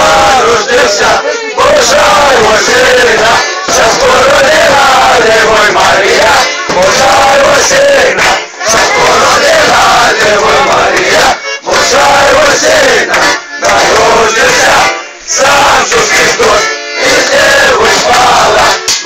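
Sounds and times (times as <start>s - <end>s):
young men chanting in unison: 0.0s - 18.9s.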